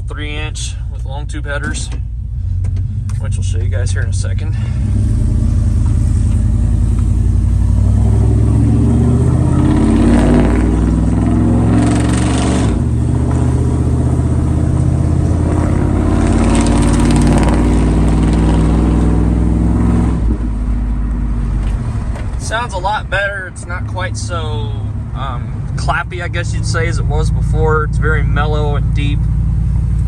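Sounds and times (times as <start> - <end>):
engine exhaust note: 0.0 - 30.0.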